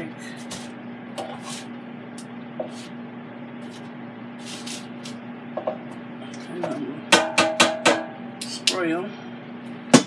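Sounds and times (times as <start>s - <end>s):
air fryer humming: 0.0s - 10.0s.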